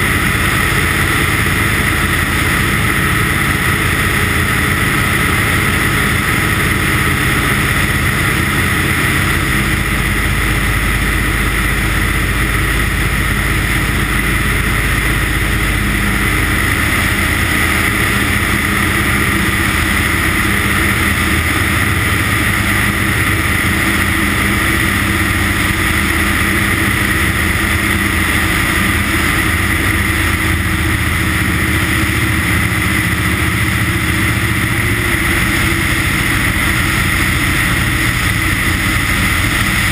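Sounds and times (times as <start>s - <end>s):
plane engine and propeller running: 0.0s - 39.9s.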